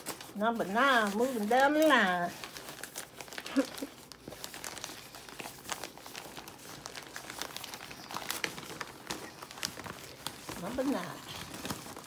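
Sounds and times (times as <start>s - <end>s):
newspaper crinkling and rustling: 0.0s - 12.0s.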